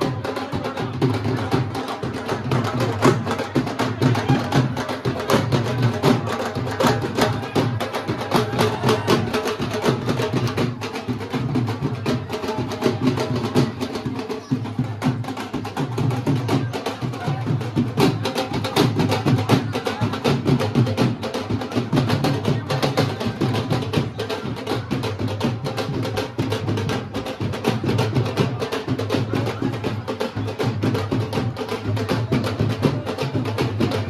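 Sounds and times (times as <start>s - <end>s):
barrel drums beaten with sticks: 0.0s - 34.0s.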